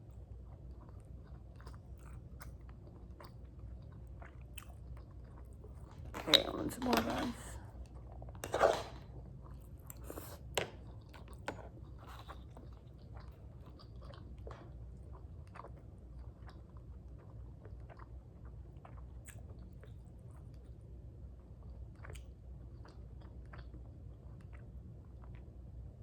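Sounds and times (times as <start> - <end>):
person chewing food: 0.1 - 6.2, 7.6 - 20.8, 21.5 - 25.5.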